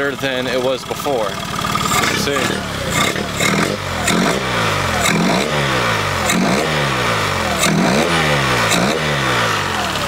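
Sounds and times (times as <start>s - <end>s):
outboard engine revving: 0.3s - 10.0s.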